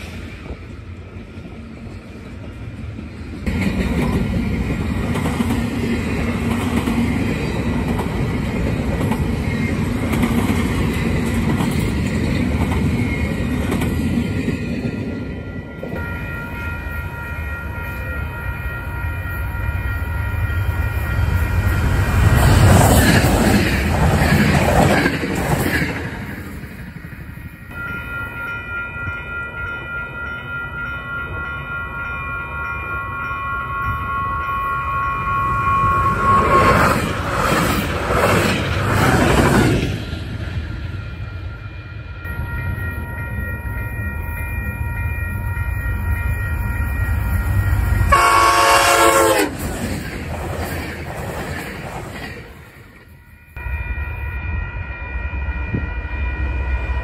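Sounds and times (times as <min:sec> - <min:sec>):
freight train rumbling past: 0:00.0 - 0:57.0
crossing warning bells ringing: 0:03.4 - 0:57.0.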